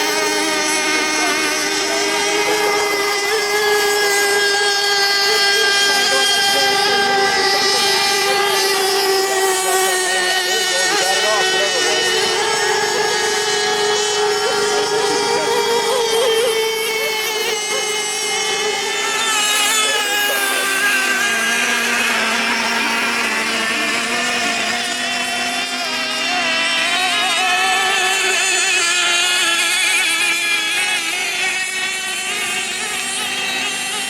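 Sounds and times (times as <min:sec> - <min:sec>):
model boat motors whining: 0:00.0 - 0:34.0.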